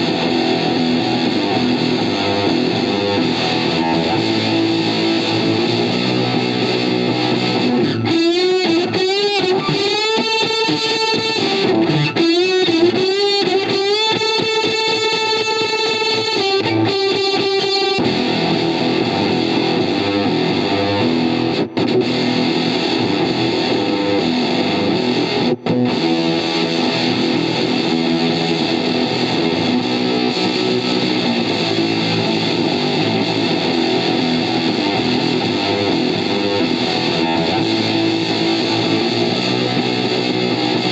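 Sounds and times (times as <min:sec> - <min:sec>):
fuzz electric guitar: 0:00.0 - 0:40.9.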